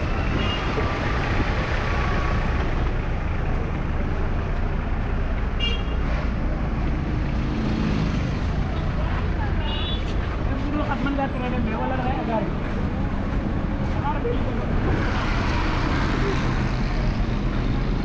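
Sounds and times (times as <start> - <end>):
car and scooter engines: 0.0 - 18.0.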